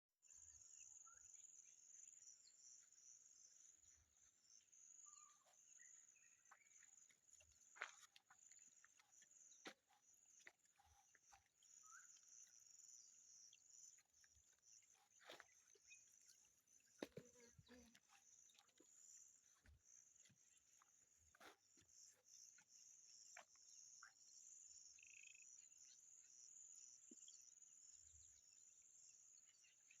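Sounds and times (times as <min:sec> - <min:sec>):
bird chirps: 0:00.3 - 0:30.0.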